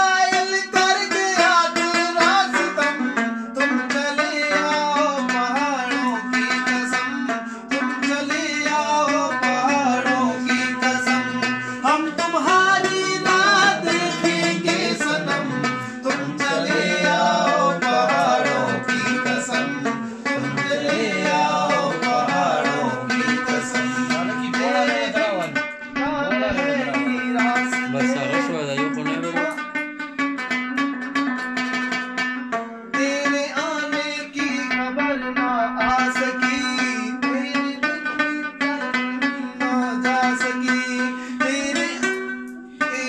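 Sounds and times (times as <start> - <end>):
man singing: 0.0 - 29.7, 32.9 - 43.0
plucked lute: 0.0 - 43.0.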